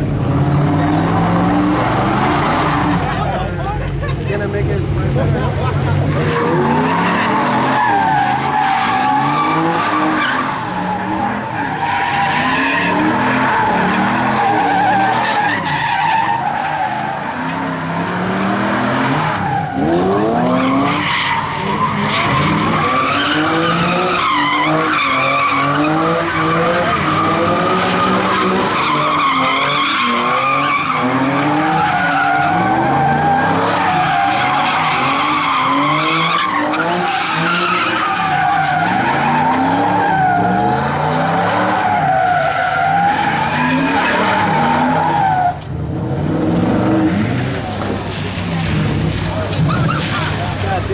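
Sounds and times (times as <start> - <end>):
tires squealing: 0.0 - 50.9.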